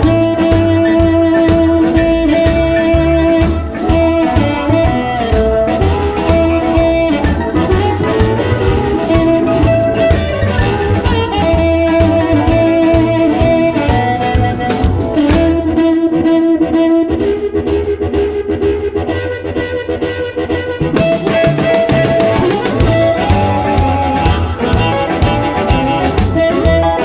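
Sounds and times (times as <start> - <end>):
steady drum beat: 0.0 - 16.0, 20.8 - 27.0
bass: 0.0 - 27.0
electric guitar lines: 0.0 - 27.0
harmonica or guitar held notes: 0.0 - 27.0.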